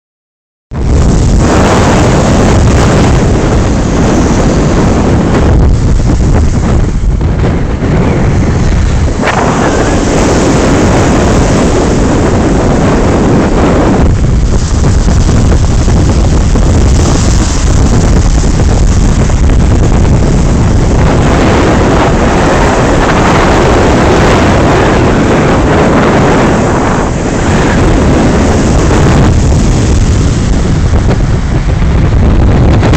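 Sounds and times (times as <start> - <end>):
strong wind buffeting microphone: 0.7 - 32.9
waves breaking: 0.8 - 32.9.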